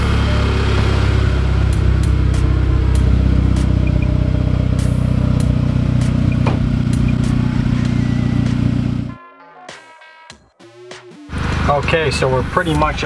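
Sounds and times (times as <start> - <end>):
car engine idling: 0.0 - 9.2, 11.3 - 13.0.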